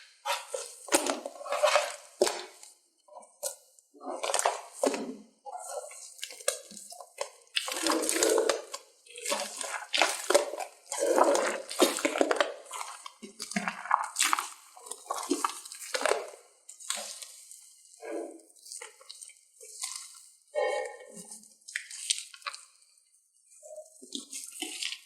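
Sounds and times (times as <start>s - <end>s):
slime squishing by hand: 0.0s - 22.8s, 23.4s - 25.0s.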